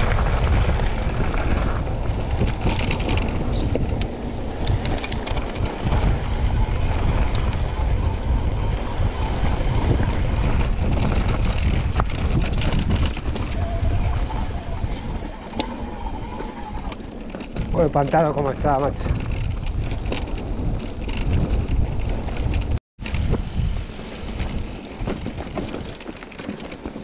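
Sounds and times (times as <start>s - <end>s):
bike clicks and rattles: 0.0s - 23.4s, 24.2s - 27.0s
tyres rumbling on dirt and stones: 0.0s - 27.0s
wind buffeting microphone: 0.0s - 27.0s.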